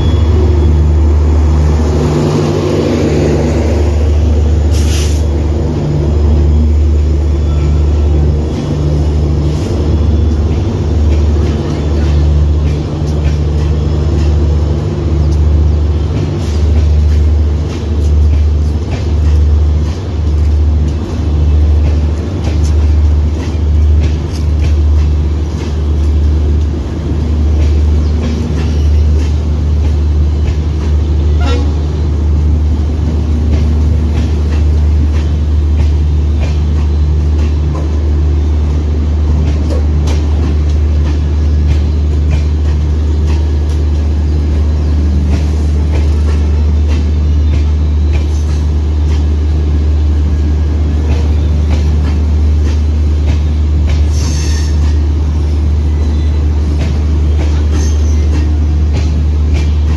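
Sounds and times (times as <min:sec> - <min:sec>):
train coaches rumbling past: 0:00.0 - 0:59.9.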